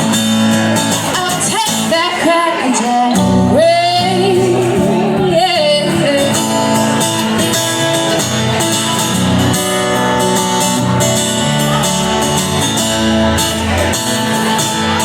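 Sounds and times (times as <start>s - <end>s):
guitar: 0.0s - 15.0s
live country band playing: 0.0s - 15.0s.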